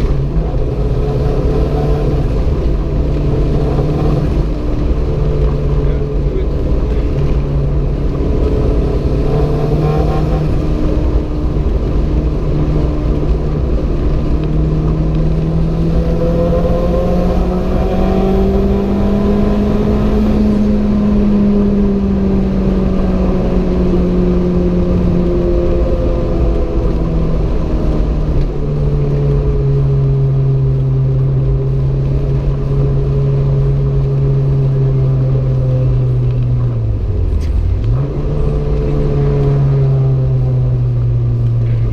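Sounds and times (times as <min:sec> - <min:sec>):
constant low rumble: 0:00.0 - 0:41.9.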